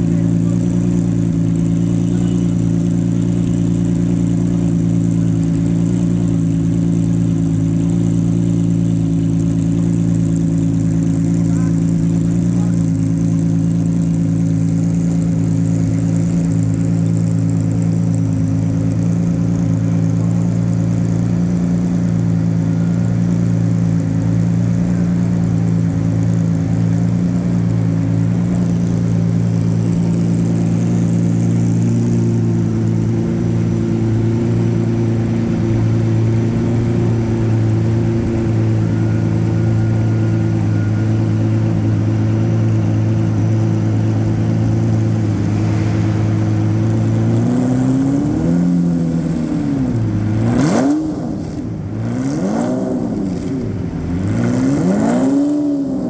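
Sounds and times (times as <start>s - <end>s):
race car engine idling: 0.0s - 56.0s.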